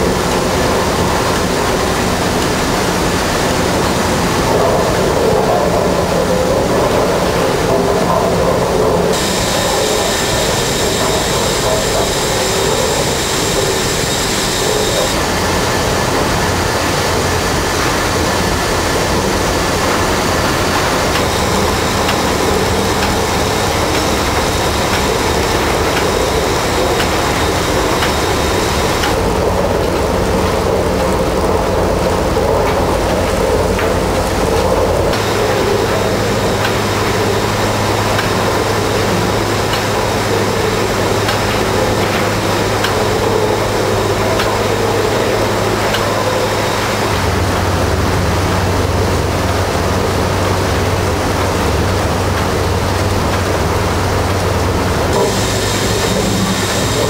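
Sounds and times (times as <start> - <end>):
steady low hum: 0.0 - 57.0
steam engine mechanical din: 0.0 - 57.0.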